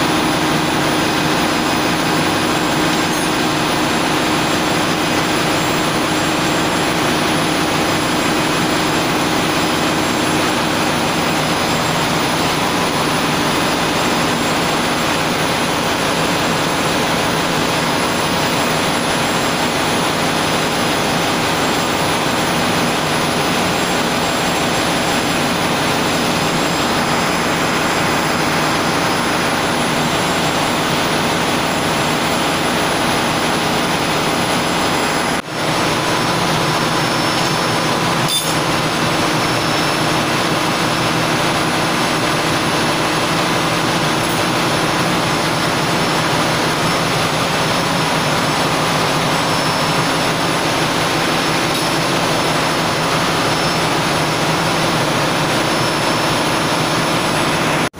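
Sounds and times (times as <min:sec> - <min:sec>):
engine-room machinery drone: 0:00.0 - 0:57.9.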